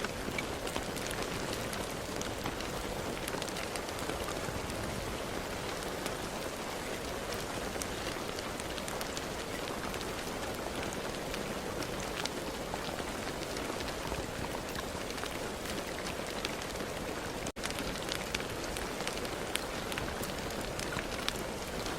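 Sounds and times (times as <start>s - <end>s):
raindrops ticking on a surface: 0.0s - 21.9s
steady rain hiss: 0.0s - 21.9s.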